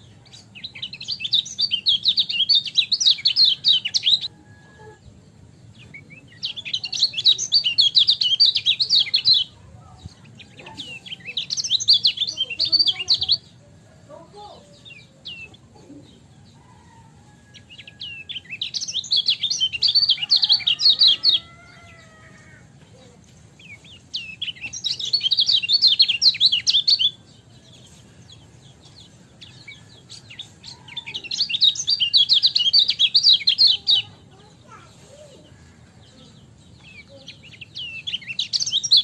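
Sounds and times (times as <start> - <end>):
bird singing rapid chattering notes: 0.0 - 4.3, 5.2 - 17.0, 17.6 - 39.0
soft bird chirps: 0.0 - 39.0.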